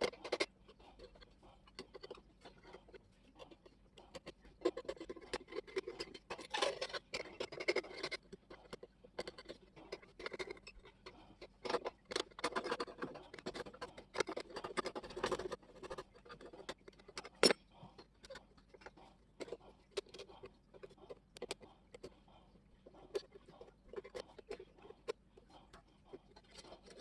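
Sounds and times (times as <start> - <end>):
small clicks and knocks: 0.0 - 27.0.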